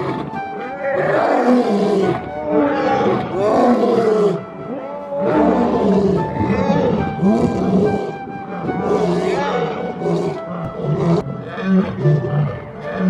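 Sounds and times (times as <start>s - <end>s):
lion roaring: 0.0s - 13.0s.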